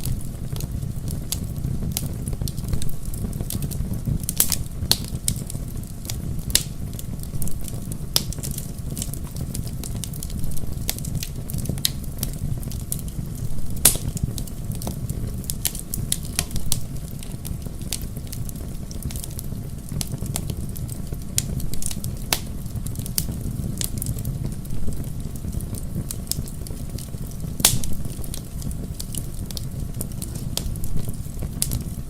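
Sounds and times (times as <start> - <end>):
low rumble of flames: 0.0 - 32.0
wood crackling and popping: 0.0 - 32.0.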